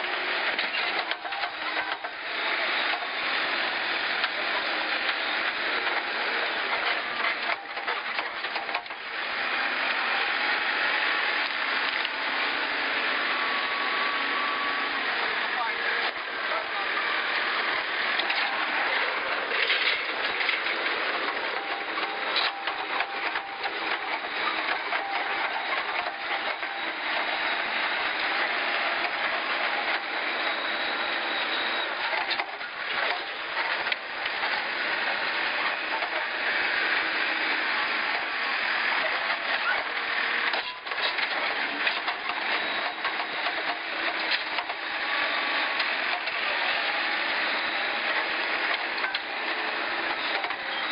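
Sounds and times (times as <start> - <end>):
diesel engine under load: 0.0 - 50.9.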